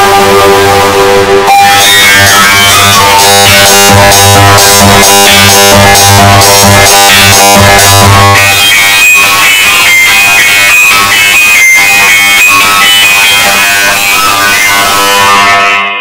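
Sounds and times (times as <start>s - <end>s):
electronic music with synthesizer: 0.0s - 16.0s.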